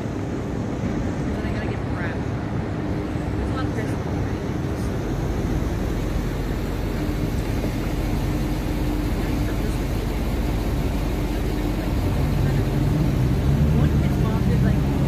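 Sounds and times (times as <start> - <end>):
low traffic rumble: 0.0 - 15.0
vehicle engines idling: 0.0 - 15.0.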